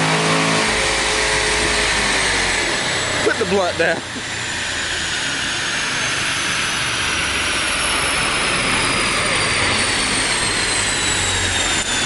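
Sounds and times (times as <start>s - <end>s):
car engine roaring on dynamometer: 0.0s - 12.0s
high drivetrain whine: 0.0s - 12.0s.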